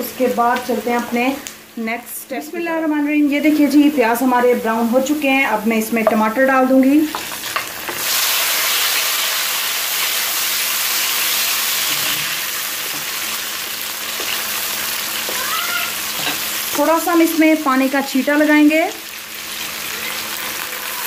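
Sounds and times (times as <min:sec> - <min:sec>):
tomatoes sizzling in hot oil: 0:00.0 - 0:21.0.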